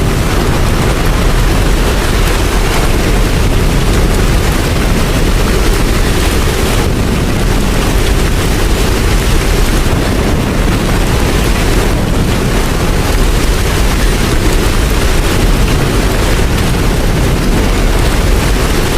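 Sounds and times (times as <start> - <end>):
heavy rain: 0.0 - 18.9.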